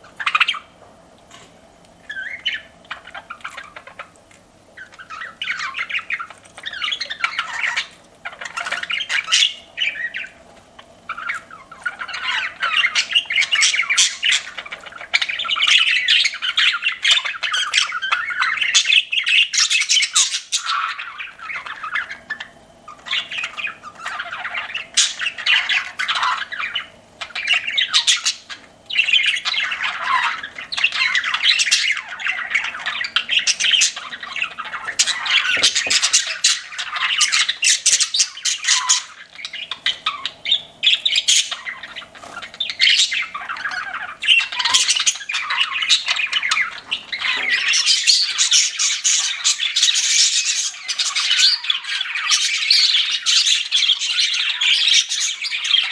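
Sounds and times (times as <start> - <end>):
budgerigars chirping: 0.0 - 4.2, 4.8 - 55.9.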